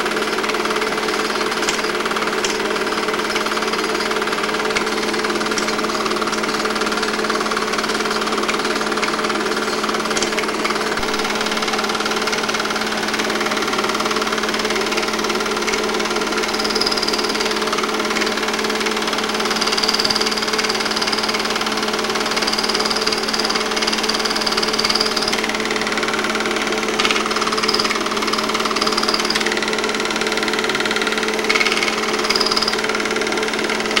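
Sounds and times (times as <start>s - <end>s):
fast mechanical clatter: 0.0s - 34.0s.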